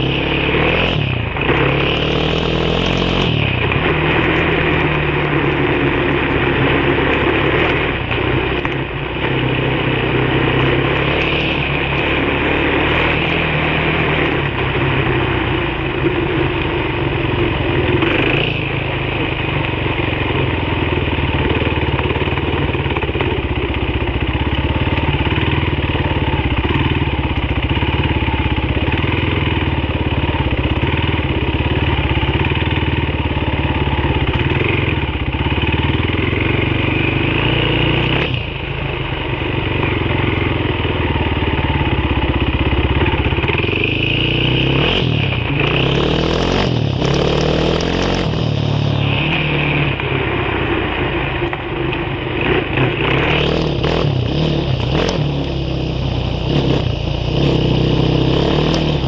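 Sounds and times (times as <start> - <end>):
off-road vehicle engine: 0.0 - 59.0
wind: 0.0 - 59.0.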